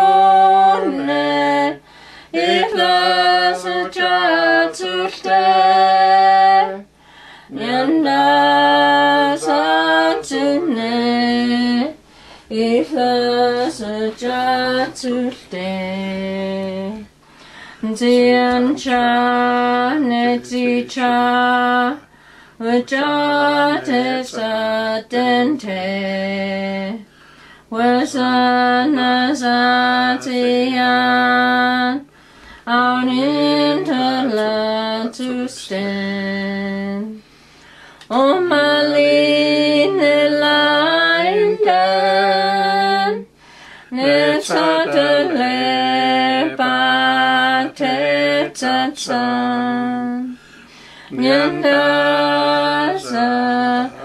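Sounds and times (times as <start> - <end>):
woman singing a hymn: 0.0 - 37.3, 37.9 - 54.0.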